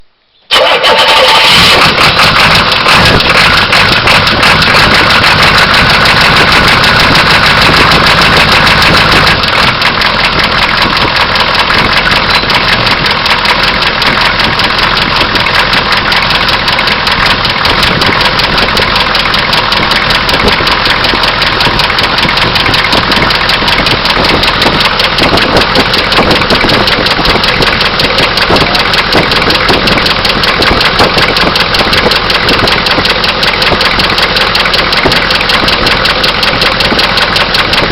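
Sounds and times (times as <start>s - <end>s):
diesel engine idling with knock: 0.5s - 37.9s.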